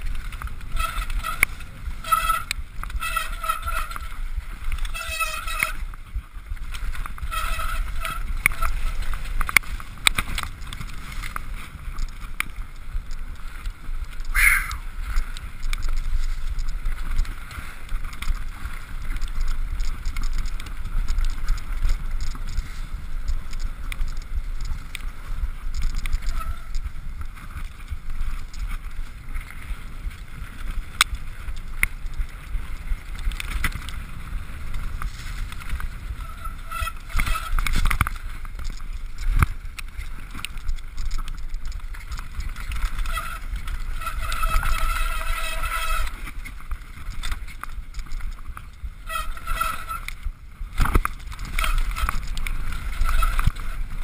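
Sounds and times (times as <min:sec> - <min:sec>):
bike rattling and clicking: 0:00.0 - 0:54.0
wind buffeting microphone: 0:00.0 - 0:54.0.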